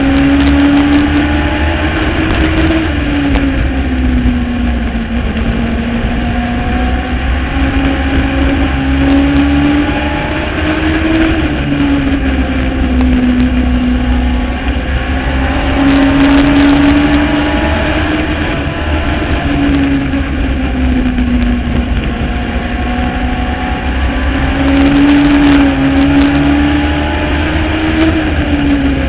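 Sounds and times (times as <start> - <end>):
race car engine accelerating: 0.0 - 29.0.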